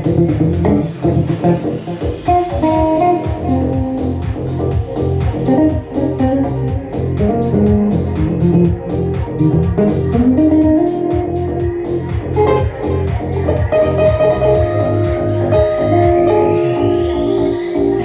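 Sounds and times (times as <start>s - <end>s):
bass line: 0.0s - 18.0s
guitar melody: 0.0s - 18.0s
steady beat: 0.0s - 18.0s.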